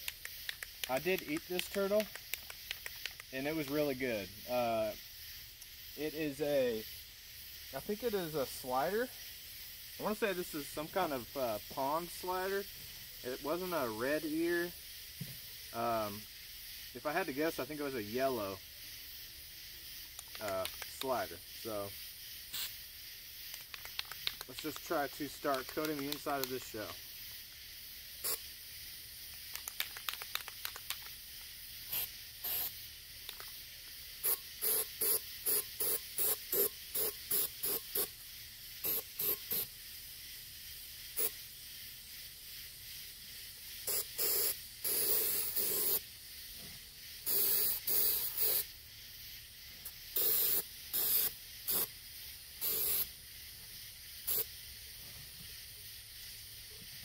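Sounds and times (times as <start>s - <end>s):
aerosol can spraying: 0.0s - 57.0s.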